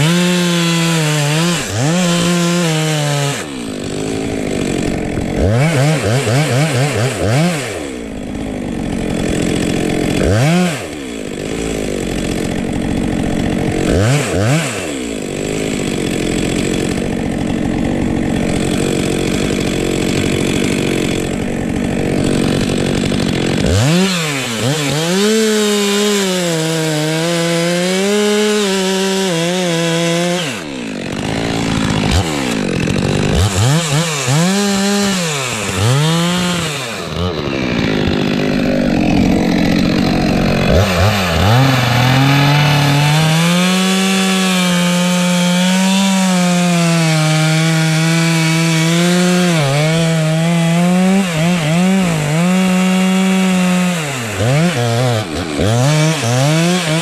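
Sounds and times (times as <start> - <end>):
chainsaw sawing wood: 0.0 - 57.0.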